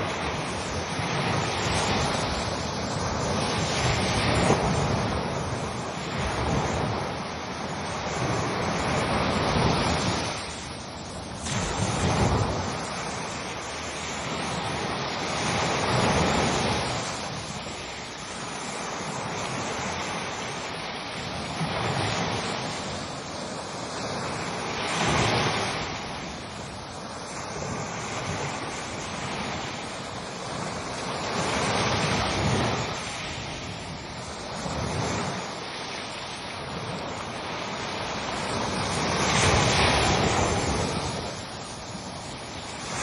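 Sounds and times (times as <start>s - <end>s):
ocean waves breaking on shore: 0.0s - 43.0s.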